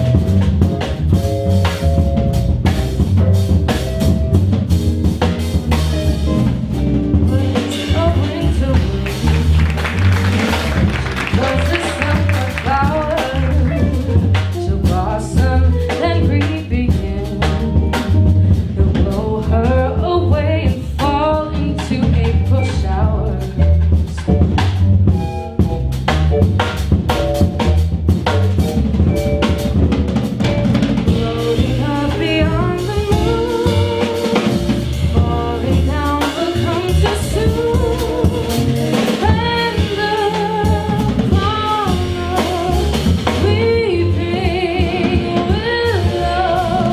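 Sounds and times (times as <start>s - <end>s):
bass line: 0.0s - 46.9s
drum kit groove: 0.0s - 46.9s
jazz melody instrument: 0.0s - 46.9s.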